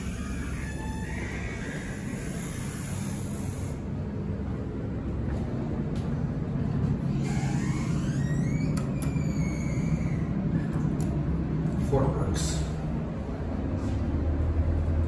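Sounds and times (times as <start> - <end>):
elevator hum: 0.0 - 15.0.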